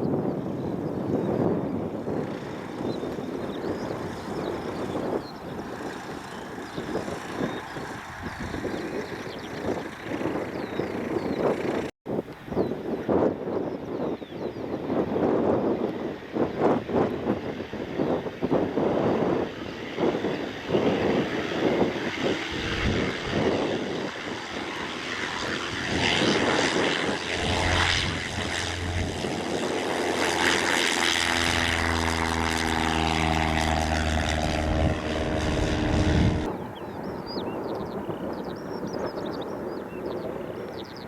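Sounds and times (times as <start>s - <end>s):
propeller aircraft engine droning: 0.0s - 41.0s
wind buffeting microphone: 0.0s - 41.0s.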